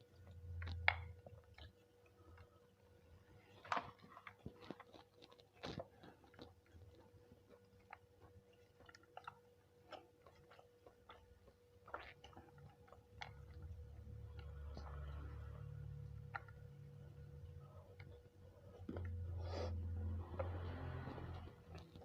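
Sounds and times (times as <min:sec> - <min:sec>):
soft chewing with crunches: 0:00.0 - 0:22.0
thin steady hum: 0:00.0 - 0:22.0.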